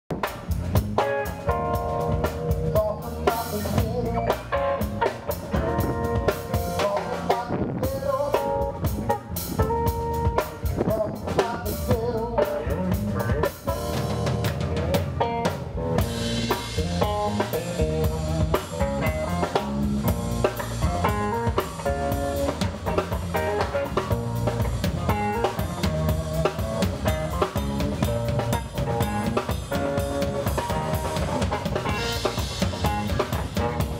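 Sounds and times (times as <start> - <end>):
band playing instrumental music: 0.1 - 33.9
steady drumbeat: 0.1 - 33.9.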